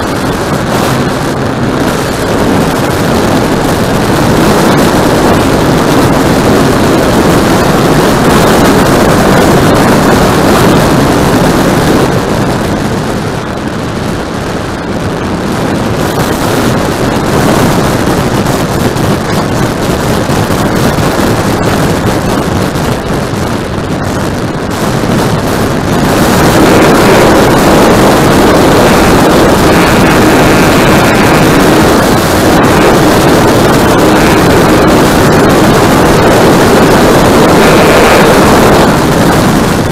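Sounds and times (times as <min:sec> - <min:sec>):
model airplane motor and propeller: 0:00.0 - 0:12.9, 0:15.0 - 0:39.9
wind rush on microphone: 0:00.0 - 0:39.9.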